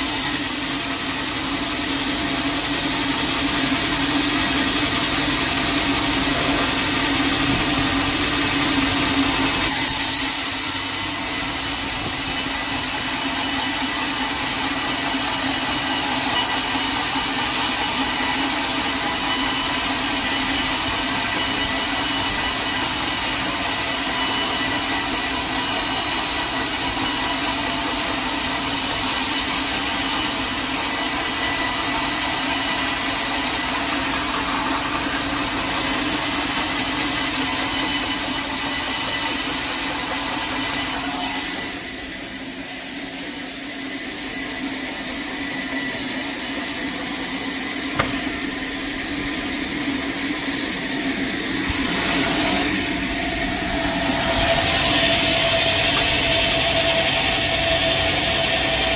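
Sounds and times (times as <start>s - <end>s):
sawmill blade cutting log: 0.0s - 58.9s.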